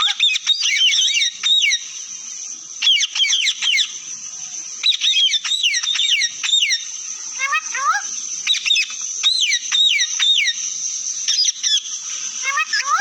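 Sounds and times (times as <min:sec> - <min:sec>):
parrot chirping and whistling: 0:00.0 - 0:01.8, 0:02.8 - 0:03.9, 0:04.8 - 0:10.6, 0:11.3 - 0:13.0.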